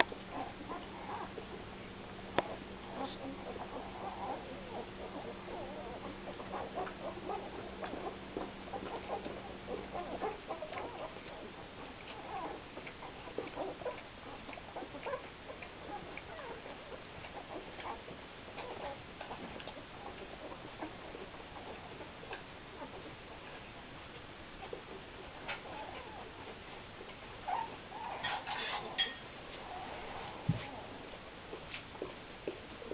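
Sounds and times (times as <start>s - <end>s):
low steady hum: 0.0s - 32.9s
puppies squeaking and whimpering: 0.1s - 31.2s.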